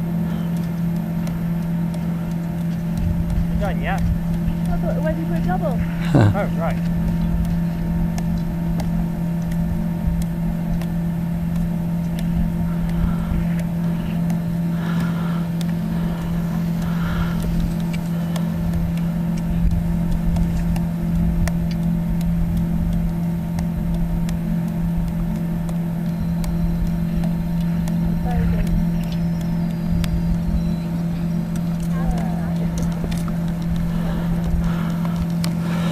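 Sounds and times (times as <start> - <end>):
low mechanical hum: 0.0 - 35.9
wind rumble on microphone: 2.7 - 35.9.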